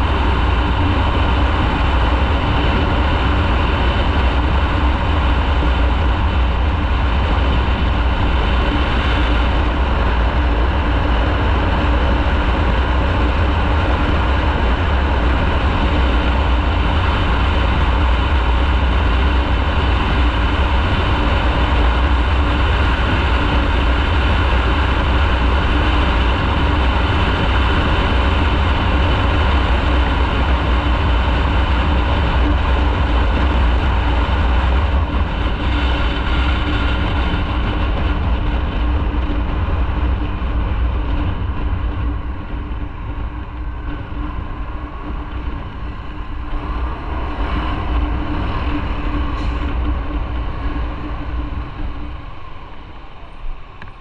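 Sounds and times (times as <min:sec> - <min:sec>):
motorcycle engine running: 0:00.0 - 0:53.1
riding wind noise: 0:00.0 - 0:54.0.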